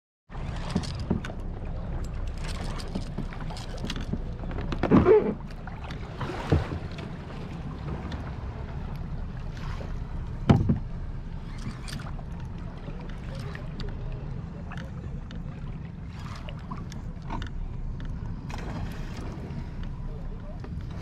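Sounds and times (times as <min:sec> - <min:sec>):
water lapping against kayak hull: 0:00.3 - 0:21.0.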